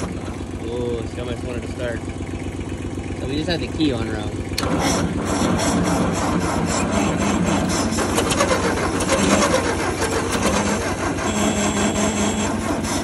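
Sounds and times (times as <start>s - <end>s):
tractor engine cranking: 0.0s - 13.0s.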